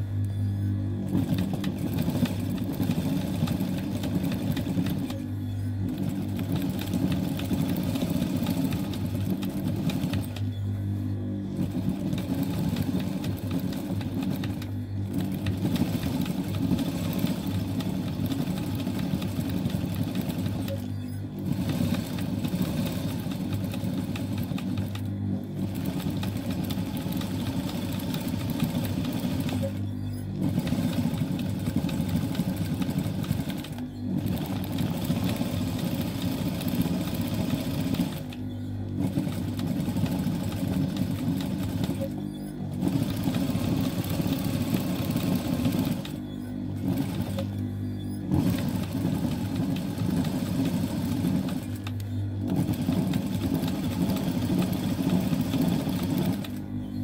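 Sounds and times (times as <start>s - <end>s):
low motor hum: 0.0s - 57.0s
sewing machine stitching: 1.0s - 10.5s, 11.5s - 47.6s, 48.2s - 56.7s.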